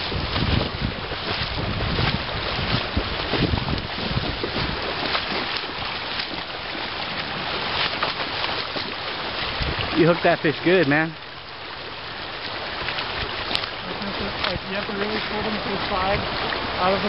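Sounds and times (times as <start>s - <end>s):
wind buffeting microphone: 0.0s - 11.8s, 12.5s - 17.0s
river water rushing over rocks: 0.0s - 17.0s.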